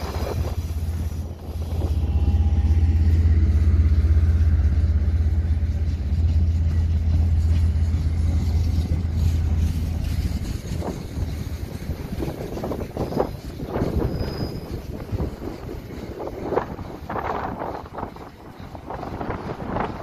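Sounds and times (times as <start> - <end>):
diesel locomotive engine rumble: 0.0 - 20.0
wagons rolling on rails: 0.0 - 20.0.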